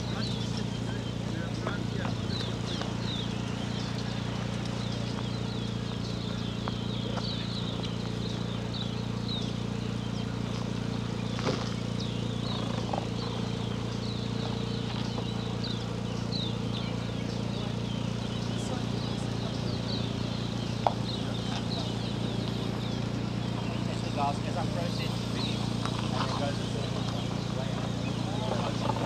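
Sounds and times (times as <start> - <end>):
high chirping animal calls: 0.0 - 29.0
steady low hum: 0.0 - 29.0.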